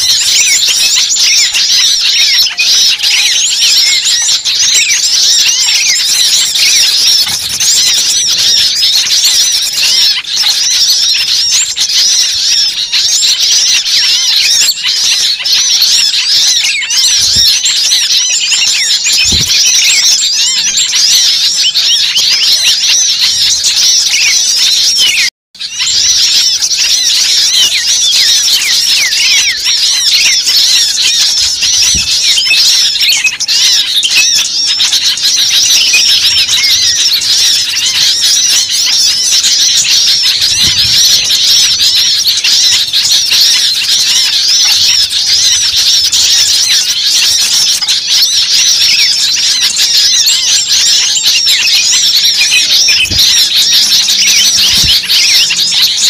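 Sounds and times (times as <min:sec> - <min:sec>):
small birds chirping in chorus: 0:00.0 - 0:56.0.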